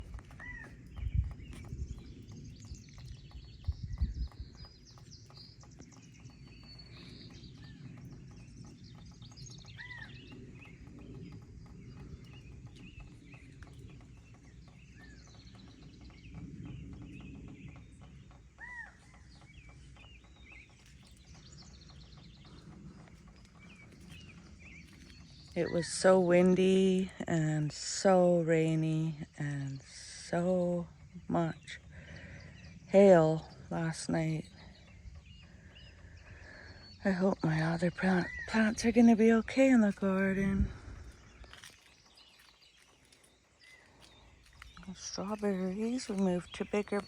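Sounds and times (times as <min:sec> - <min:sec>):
low rumble: 0:00.0 - 0:27.8, 0:29.2 - 0:47.0
songbirds chirping and singing: 0:00.0 - 0:47.0.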